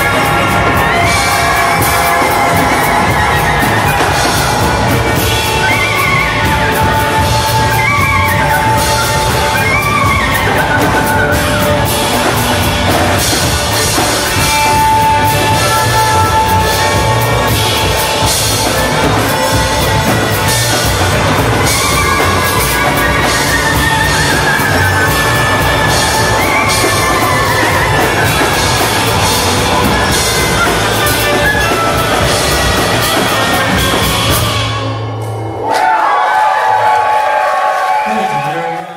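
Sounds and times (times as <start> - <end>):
clarinet: 0.0 - 35.0
lap steel guitar: 0.0 - 35.5
electric guitar: 0.0 - 35.7
drums: 0.0 - 38.9
trumpet: 0.0 - 38.9.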